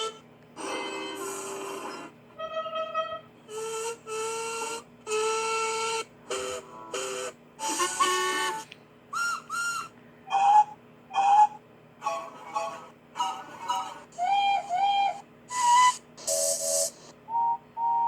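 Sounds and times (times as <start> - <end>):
train whistle blasts: 2.4 - 17.0.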